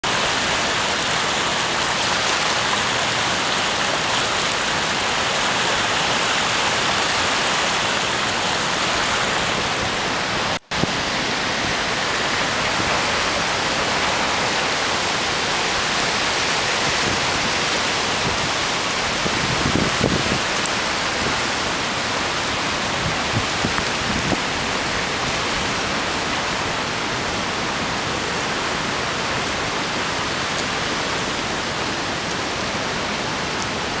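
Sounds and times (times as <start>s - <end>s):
river rushing through rapids: 0.0s - 34.0s.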